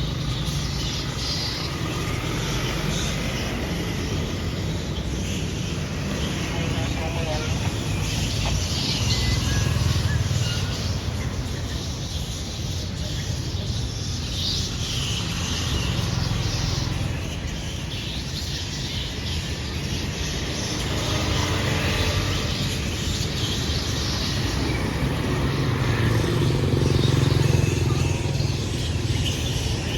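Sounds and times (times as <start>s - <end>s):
flock of birds chirping: 0.0s - 29.9s
road traffic rumble: 0.0s - 29.9s.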